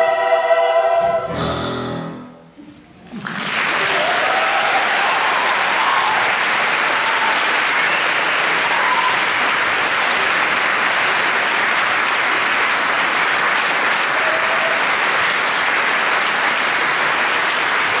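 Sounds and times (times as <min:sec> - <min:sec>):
audience applauding: 0:03.0 - 0:18.0.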